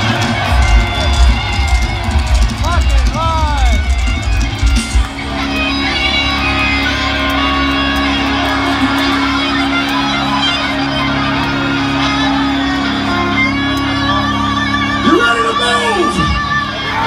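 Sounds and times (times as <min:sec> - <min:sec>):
electric guitar through sound system: 0:00.0 - 0:17.0.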